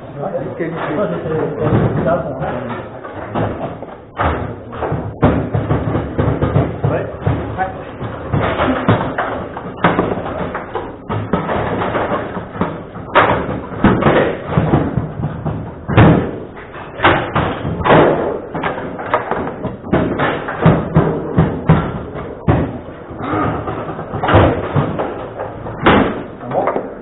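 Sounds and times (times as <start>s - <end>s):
table football knocks and slams: 0.8s - 27.0s.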